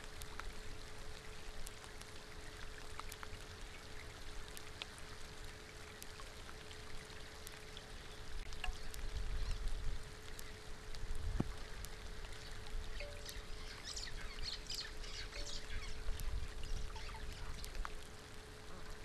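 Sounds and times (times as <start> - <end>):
faint steady hum: 0.0 - 19.0
rain falling on water: 0.0 - 19.0.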